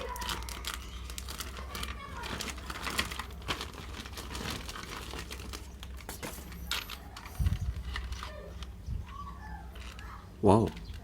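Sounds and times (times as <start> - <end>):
packaging crinkling: 0.0 - 10.2.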